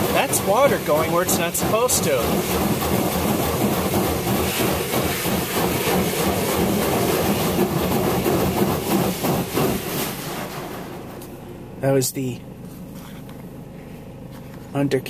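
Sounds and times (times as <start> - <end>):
water jets spraying car: 0.0 - 15.0.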